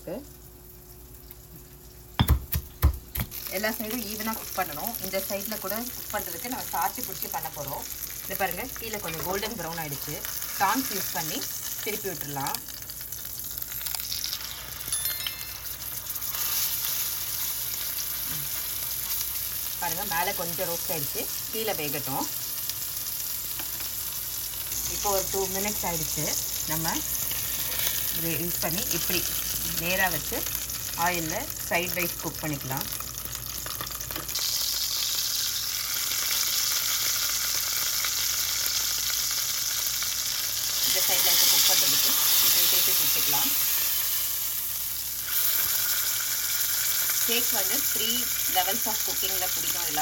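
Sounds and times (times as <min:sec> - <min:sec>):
steak sizzling in oil: 0:03.1 - 0:50.0.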